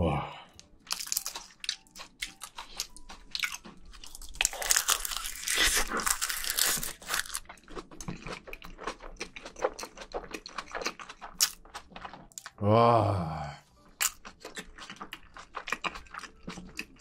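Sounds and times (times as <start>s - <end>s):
wet crunching and chewing: 0.5s - 12.6s, 13.8s - 17.0s.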